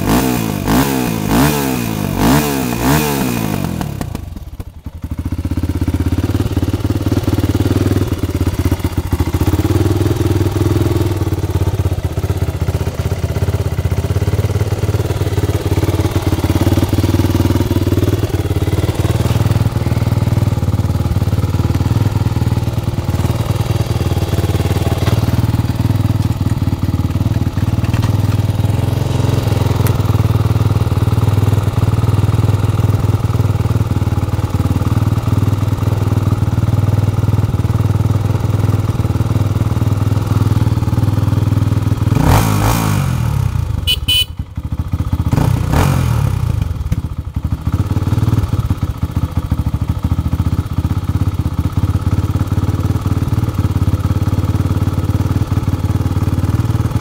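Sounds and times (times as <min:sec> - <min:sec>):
motorcycle engine idling: 0:00.0 - 0:57.0
motorcycle engine revving: 0:00.0 - 0:57.0.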